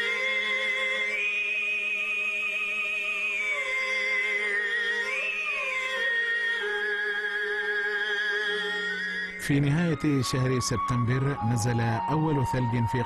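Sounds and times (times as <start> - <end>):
end-blown flute melody: 0.0 - 13.0.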